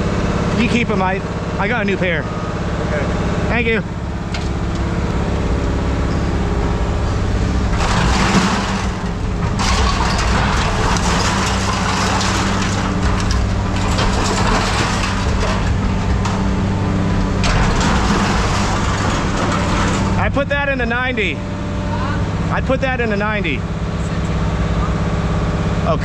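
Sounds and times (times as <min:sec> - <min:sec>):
crunching rattling metal: 0:00.0 - 0:25.5
engine running: 0:00.0 - 0:26.0.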